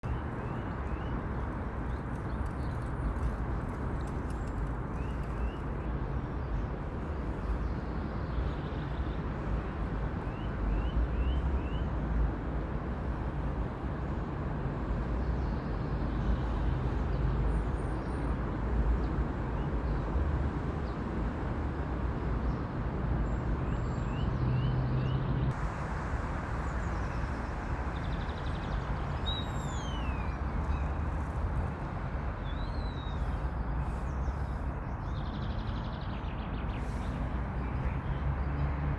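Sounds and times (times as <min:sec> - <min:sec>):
faint birdsong: 0:00.0 - 0:12.0, 0:13.6 - 0:21.5, 0:22.4 - 0:25.6, 0:26.5 - 0:38.9.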